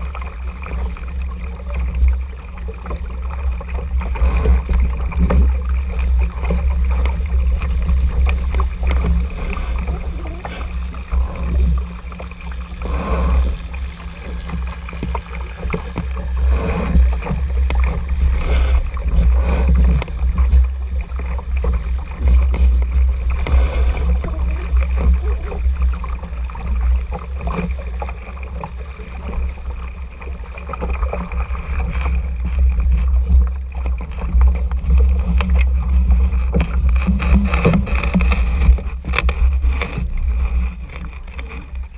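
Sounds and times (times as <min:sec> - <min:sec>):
water slapping against hull: 0:00.0 - 0:41.9
wind rumble on microphone: 0:00.0 - 0:41.9.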